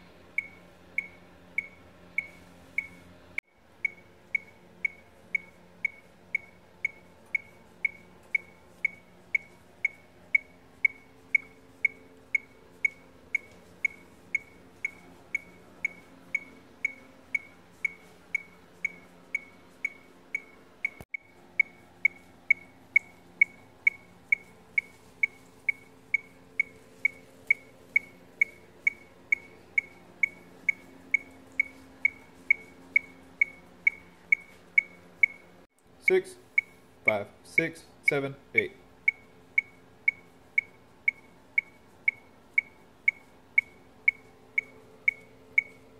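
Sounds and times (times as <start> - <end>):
metronome clicking: 3.8 - 35.5, 39.1 - 45.8.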